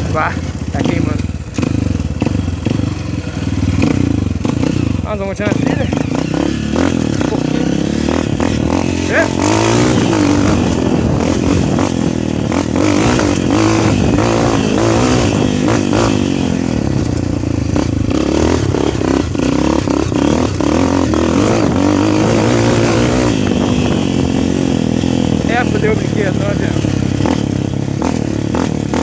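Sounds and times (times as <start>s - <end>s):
motorbike engine revving: 0.0s - 29.0s.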